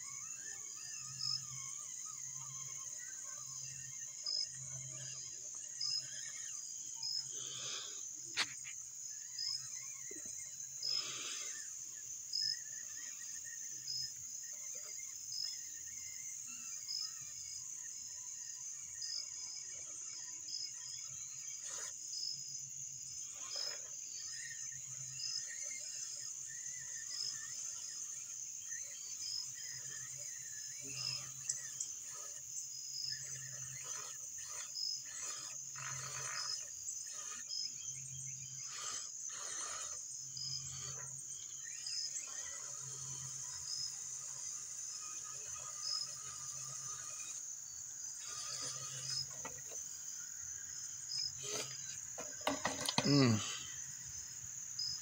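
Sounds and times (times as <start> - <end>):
insect chirps: 0.0 - 55.0
insects buzzing: 0.0 - 55.0.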